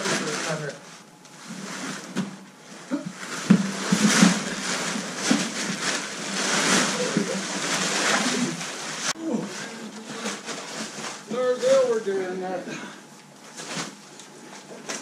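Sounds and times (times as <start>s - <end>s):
plastic tarp crinkling: 0.0s - 12.4s, 13.5s - 14.0s, 14.6s - 15.0s.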